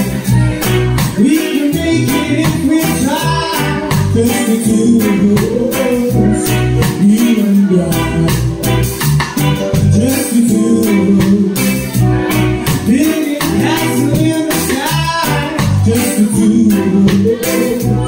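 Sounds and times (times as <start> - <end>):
bass line: 0.0 - 18.0
keyboard melody: 0.0 - 18.0.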